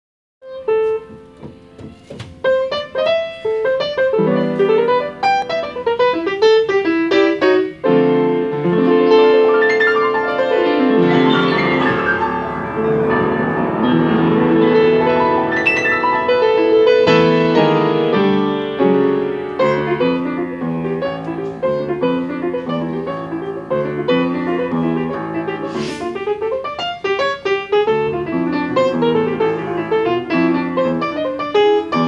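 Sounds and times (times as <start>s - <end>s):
upright piano playing: 0.4s - 32.0s.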